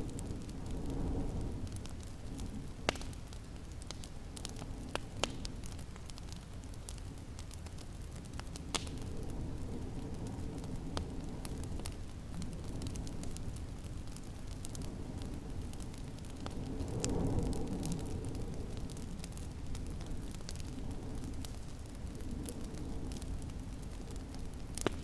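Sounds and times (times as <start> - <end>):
low rumble of wind: 0.0 - 25.0
wood fire crackling: 0.0 - 25.0.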